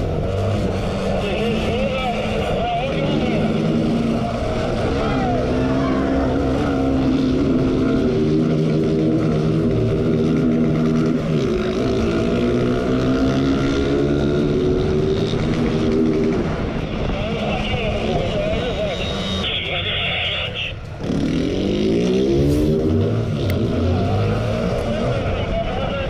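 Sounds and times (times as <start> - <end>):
motorcycle engine at high revs: 0.0 - 19.4, 21.0 - 25.5.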